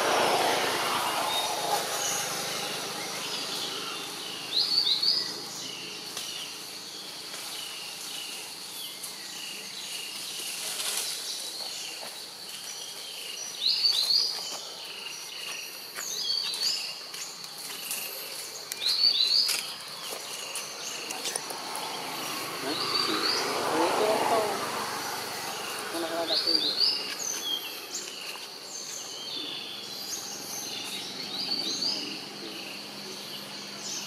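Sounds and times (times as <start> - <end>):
birds chirping: 0.0 - 34.0
insect hiss: 0.0 - 34.0.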